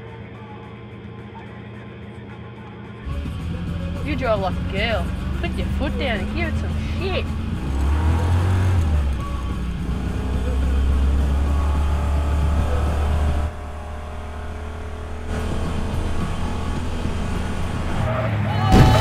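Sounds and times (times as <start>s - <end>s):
music playing: 0.0s - 19.0s
car engine running hard: 3.1s - 19.0s.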